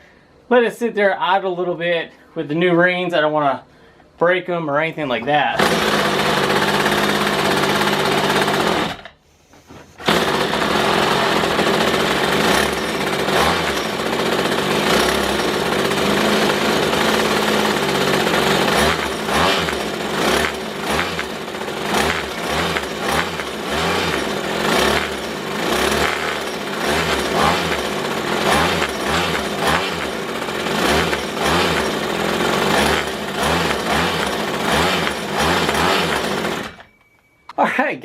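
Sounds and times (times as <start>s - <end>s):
hedge trimmer engine running: 5.6s - 9.1s, 10.0s - 36.9s.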